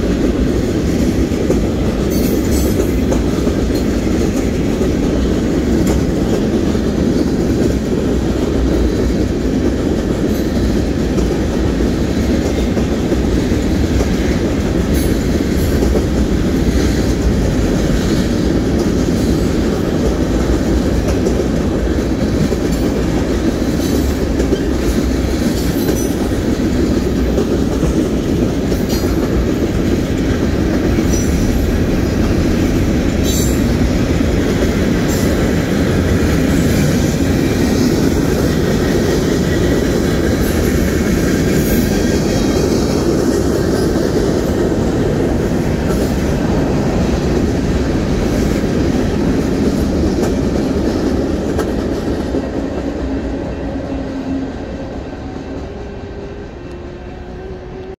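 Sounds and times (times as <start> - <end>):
steel wheels rumbling on rail: 0.0 - 57.9.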